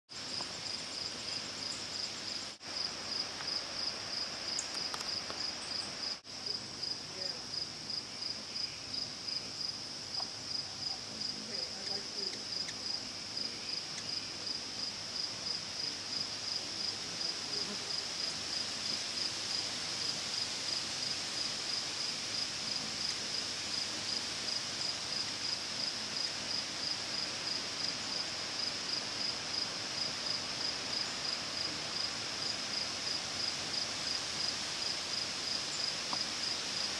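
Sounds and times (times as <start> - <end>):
cricket chirping: 0.1 - 18.6, 21.4 - 36.9
outdoor hiss: 0.1 - 36.9.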